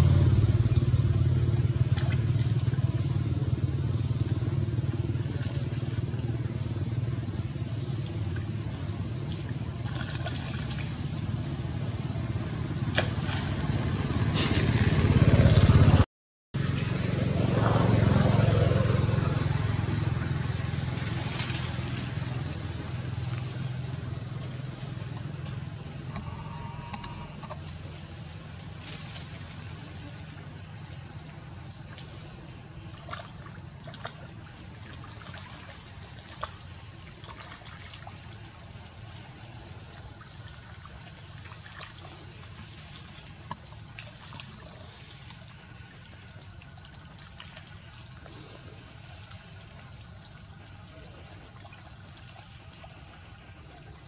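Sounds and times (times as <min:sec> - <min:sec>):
faint water splashes: 0:00.0 - 0:14.9, 0:16.6 - 0:54.0
low outdoor rumble: 0:00.0 - 0:16.0, 0:16.6 - 0:54.0.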